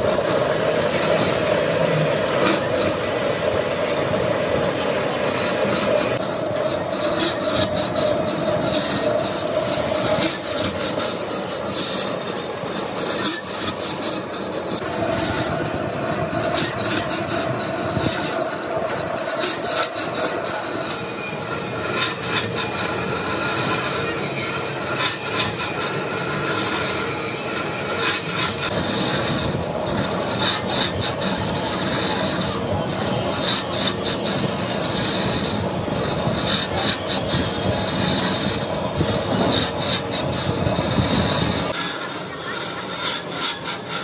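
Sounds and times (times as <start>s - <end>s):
high metallic squeal: 0.0s - 44.0s
lathe belt drive hum: 0.0s - 44.0s
lathe tool scraping metal: 0.0s - 44.0s.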